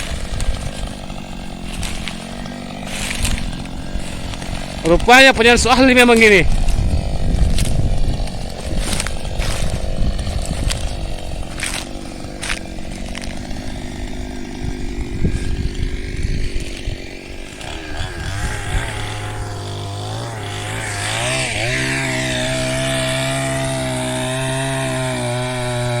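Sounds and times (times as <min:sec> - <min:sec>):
chainsaw cutting wood: 0:00.0 - 0:26.0.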